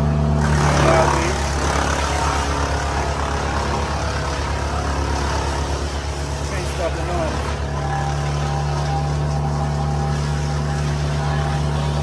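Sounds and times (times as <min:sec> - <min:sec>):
heavy machinery engine droning: 0:00.0 - 0:12.0.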